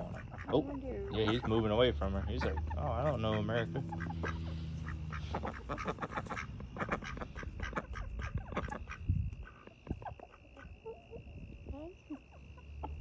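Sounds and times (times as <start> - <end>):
fowl calling: 0.0 - 11.2.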